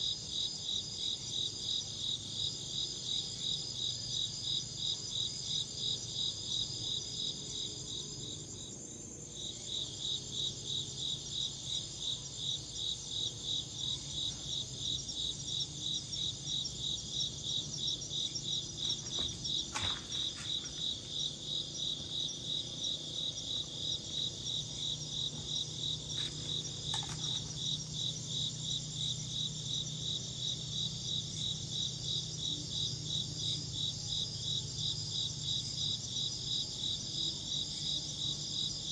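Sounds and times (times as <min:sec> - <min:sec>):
crickets chirping: 0:00.0 - 0:38.9
high-pitched insect trill: 0:00.0 - 0:38.9.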